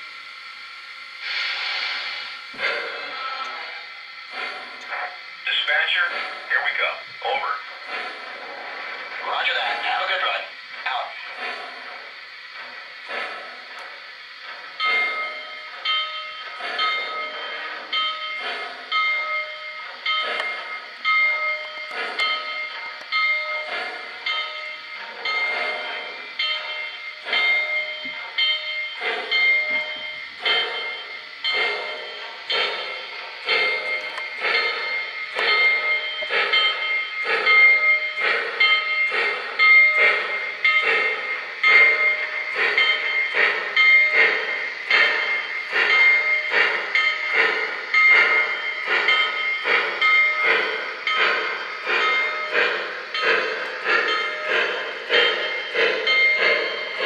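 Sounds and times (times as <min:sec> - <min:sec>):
model steam locomotive chuffing: 0:00.0 - 0:57.0.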